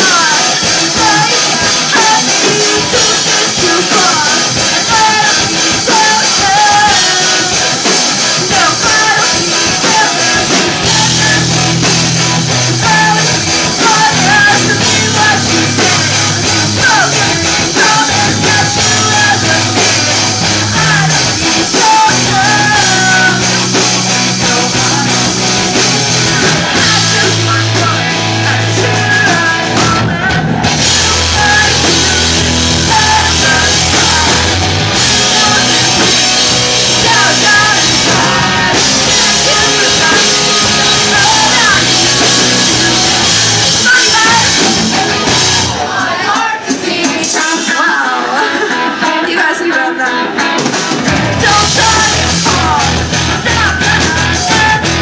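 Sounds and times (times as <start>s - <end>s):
woman singing: 0.0s - 11.8s, 12.6s - 50.8s, 51.4s - 55.0s
live rock band: 0.0s - 55.0s.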